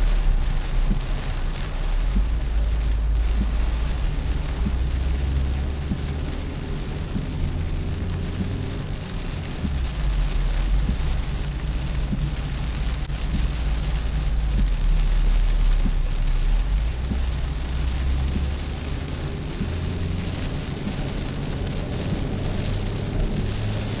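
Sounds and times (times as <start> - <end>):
engine and road rumble: 0.0 - 24.0
rain on a car: 0.0 - 24.0.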